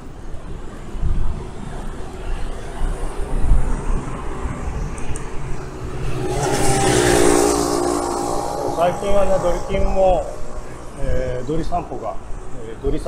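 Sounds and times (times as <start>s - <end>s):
bicycle road rumble: 0.0s - 13.0s
passing vehicle engine and tyres: 0.0s - 13.0s
wind buffeting microphone: 0.0s - 13.0s.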